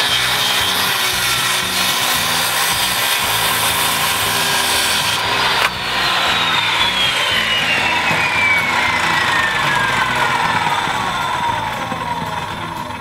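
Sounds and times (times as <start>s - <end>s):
circular saw motor whine: 0.0s - 13.0s
saw blade rasping through wood: 0.0s - 13.0s.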